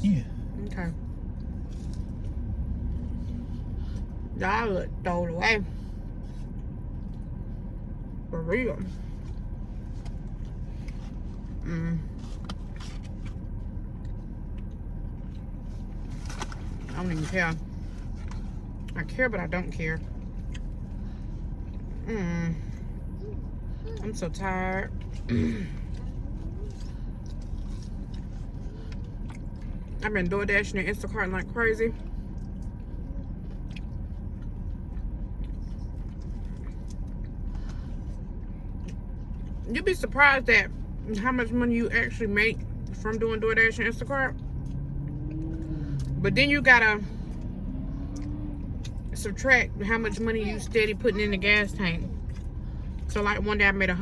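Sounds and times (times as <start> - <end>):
car engine rumble inside cabin: 0.0 - 54.0.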